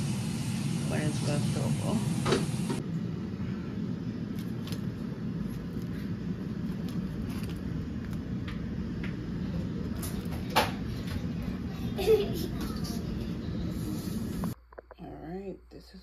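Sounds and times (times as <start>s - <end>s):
kitchen appliance fan hum: 0.0s - 16.0s.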